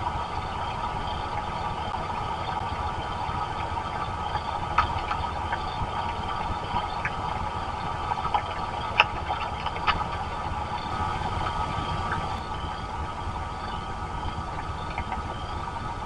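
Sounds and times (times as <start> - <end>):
low rumble: 0.0 - 16.0
raindrops ticking on camera housing: 0.0 - 16.0
steady rain hiss: 0.0 - 16.0.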